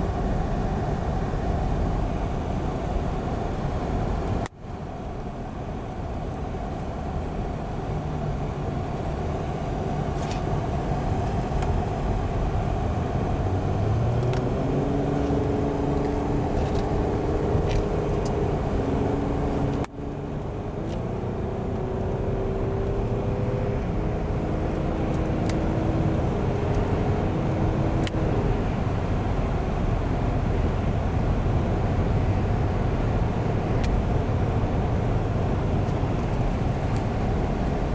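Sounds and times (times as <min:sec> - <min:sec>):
car engine and tyre rumble: 0:00.0 - 0:37.9.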